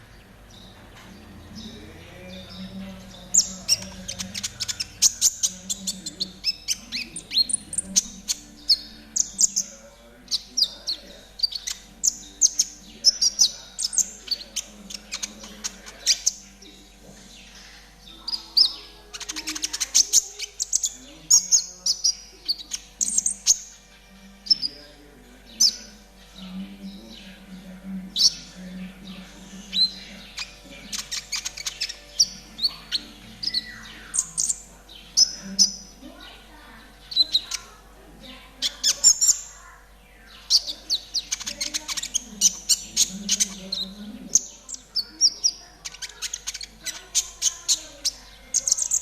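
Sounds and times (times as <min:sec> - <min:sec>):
sunbird singing rapid chirps: 0:00.0 - 0:49.0.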